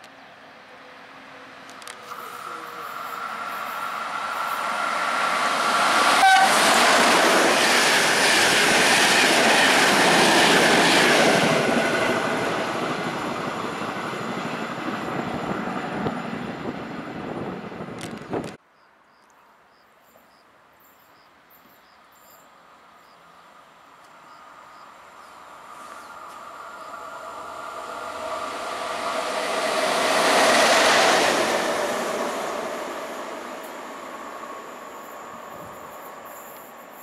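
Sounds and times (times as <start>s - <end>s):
train passing on rails: 0.0s - 18.6s, 20.8s - 37.0s.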